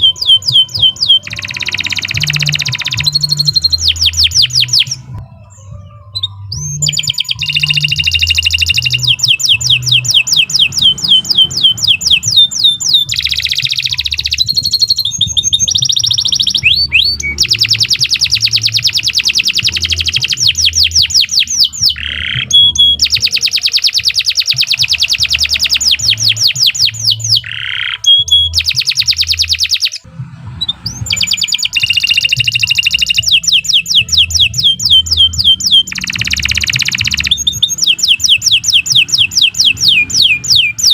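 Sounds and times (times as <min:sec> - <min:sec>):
canary trilling song: 0:00.0 - 0:40.9.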